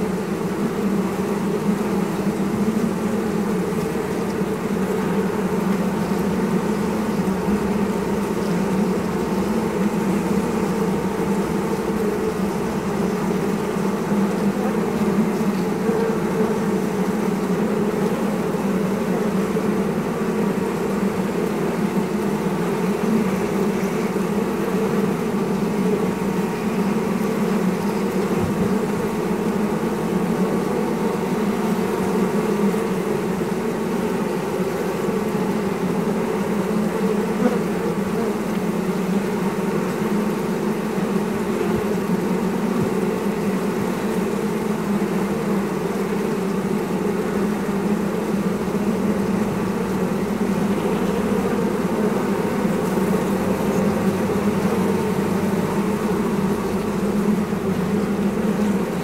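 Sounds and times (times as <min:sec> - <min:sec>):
bees buzzing in hive: 0:00.0 - 0:59.0.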